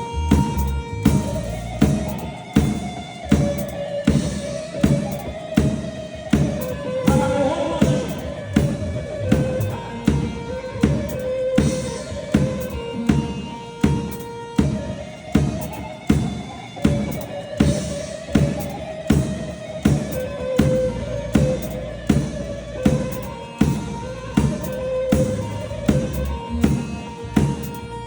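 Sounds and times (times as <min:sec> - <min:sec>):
steady drum beat: 0:00.0 - 0:28.0.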